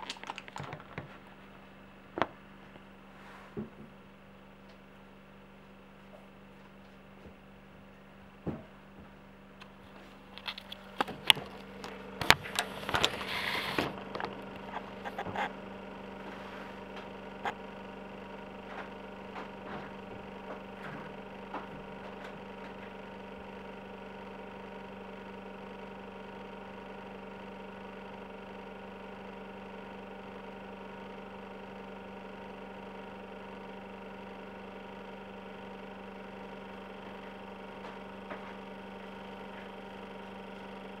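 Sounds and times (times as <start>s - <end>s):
refrigerator compressor humming: 0.0s - 41.0s.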